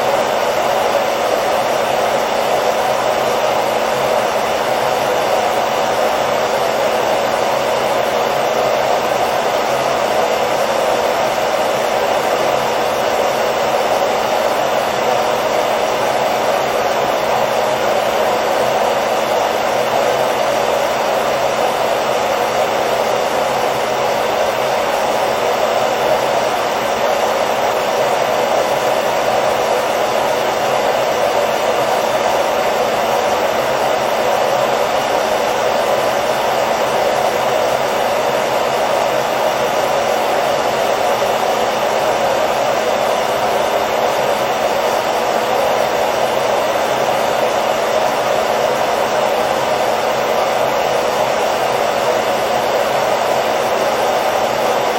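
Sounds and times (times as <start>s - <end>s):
hair dryer blowing: 0.0s - 54.9s.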